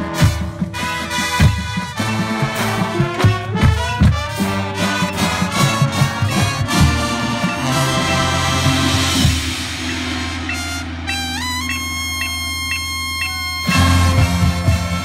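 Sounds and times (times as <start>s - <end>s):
brass chords: 0.0s - 15.0s
drum strikes: 0.0s - 15.0s.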